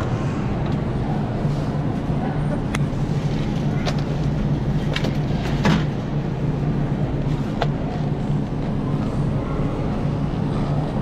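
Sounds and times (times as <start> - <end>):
low hum of refrigerated cases: 0.0 - 11.0.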